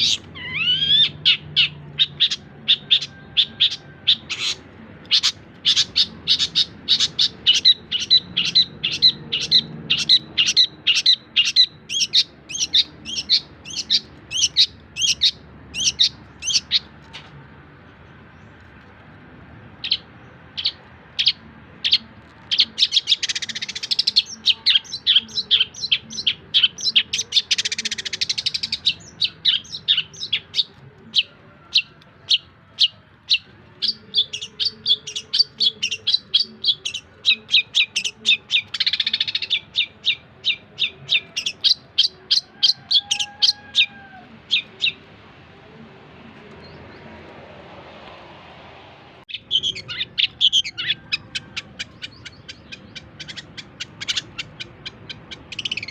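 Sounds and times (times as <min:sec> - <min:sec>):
bird singing sharp chirps and trills: 0:00.0 - 0:17.4, 0:19.8 - 0:43.9, 0:49.3 - 0:55.9.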